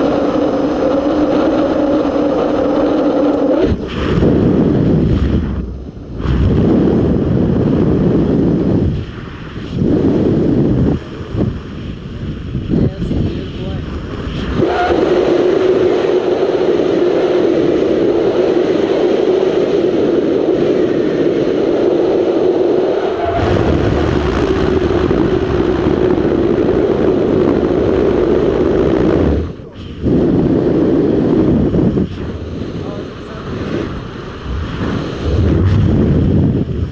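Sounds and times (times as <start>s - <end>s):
droning hum: 0.0s - 36.9s
wind rushing over helmet camera: 0.0s - 36.9s.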